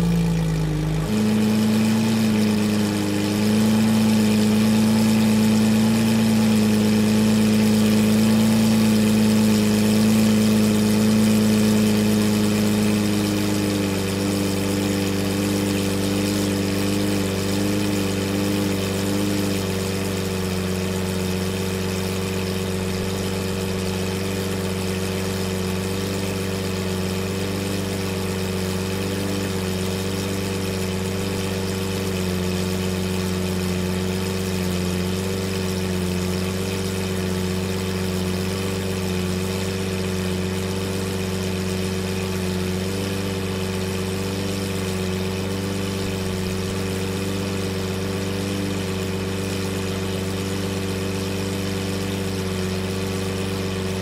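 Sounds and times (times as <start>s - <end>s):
sports car engine idling: 0.0s - 54.0s.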